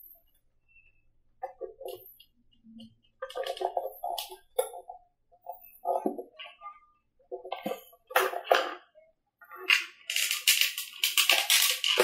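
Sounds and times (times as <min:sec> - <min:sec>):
rustling and scraping of model: 0:00.0 - 0:12.0.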